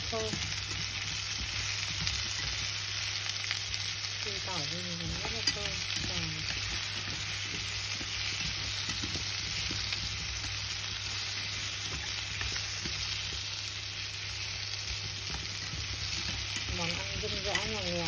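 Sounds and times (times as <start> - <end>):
food sizzling in hot oil: 0.0 - 18.0
chopsticks clicking and scraping: 0.2 - 3.8, 4.6 - 13.6, 14.6 - 18.0.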